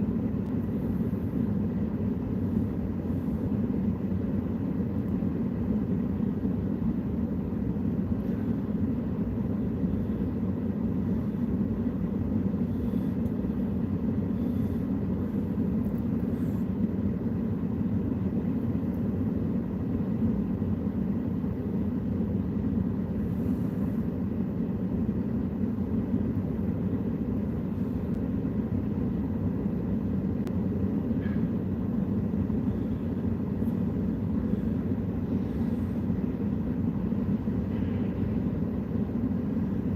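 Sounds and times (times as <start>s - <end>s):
vehicle rumbling: 0.0s - 39.9s.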